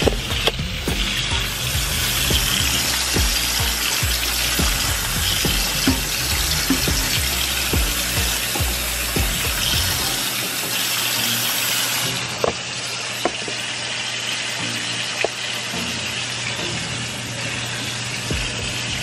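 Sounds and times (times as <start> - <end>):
faucet water rushing: 0.0 - 19.0.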